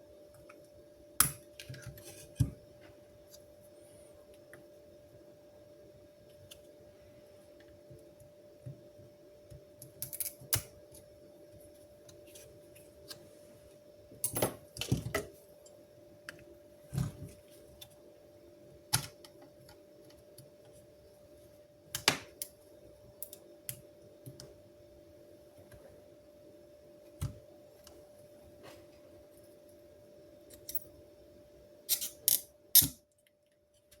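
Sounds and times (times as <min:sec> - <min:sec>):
faint hum: 0:00.0 - 0:34.0.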